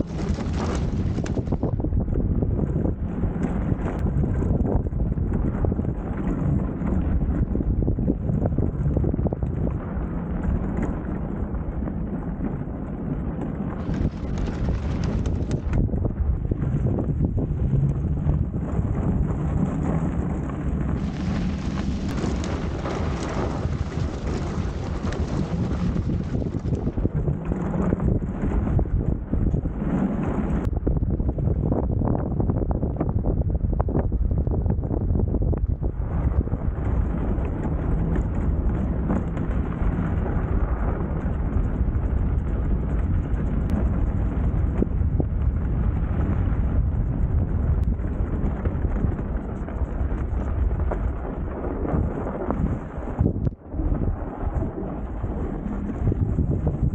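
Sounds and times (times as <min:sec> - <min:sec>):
tyres rolling over packed snow: 0:00.0 - 0:30.7, 0:36.0 - 0:56.9
wind on microphone: 0:00.0 - 0:56.9.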